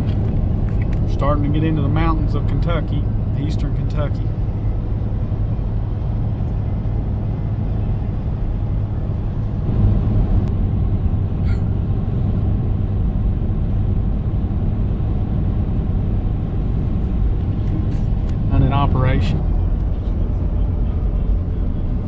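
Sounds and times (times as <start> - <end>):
vehicle driving on road: 0.0 - 22.0.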